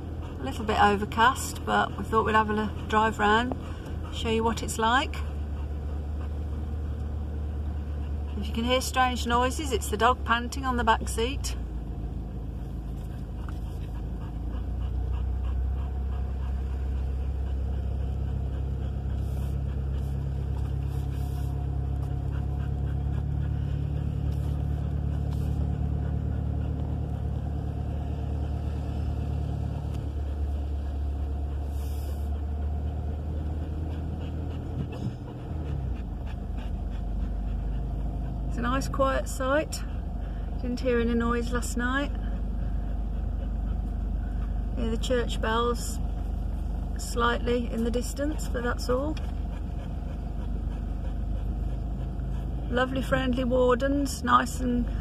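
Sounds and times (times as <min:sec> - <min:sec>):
car engine and tyres droning: 0:00.0 - 0:55.0
dog panting: 0:00.0 - 0:55.0.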